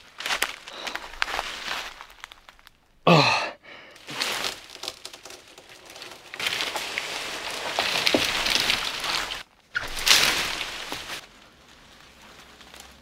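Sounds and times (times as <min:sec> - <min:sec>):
branches cracking: 0:00.0 - 0:03.0, 0:04.0 - 0:13.0
leaves and twigs rustling: 0:00.0 - 0:03.0, 0:04.0 - 0:13.0.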